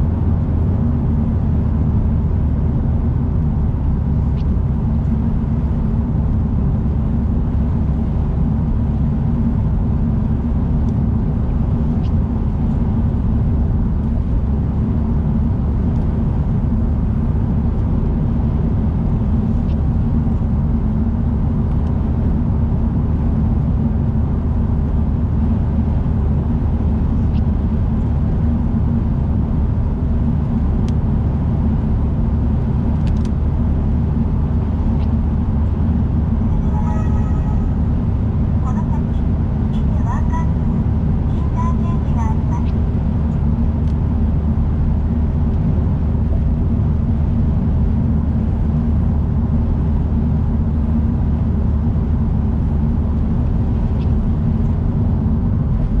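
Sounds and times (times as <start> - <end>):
car driving at speed: 0.0 - 56.0.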